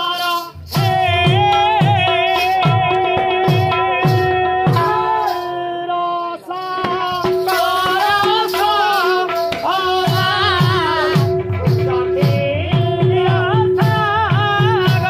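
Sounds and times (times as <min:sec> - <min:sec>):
high voice singing folk melody: 0:00.0 - 0:15.0.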